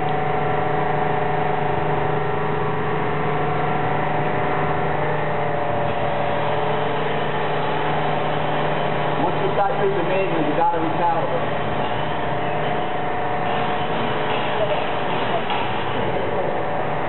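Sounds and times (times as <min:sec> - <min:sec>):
paper cutter machine humming: 0:01.5 - 0:17.0.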